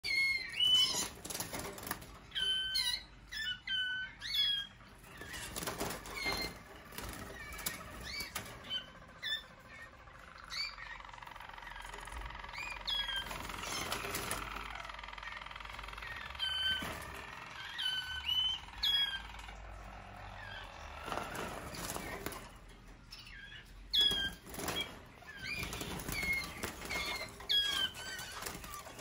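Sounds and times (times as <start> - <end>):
canaries chirping: 0.0 - 29.0
low steady bird trill: 0.0 - 29.0
wings flapping: 0.6 - 2.6, 5.0 - 9.7, 11.2 - 22.9, 23.8 - 29.0.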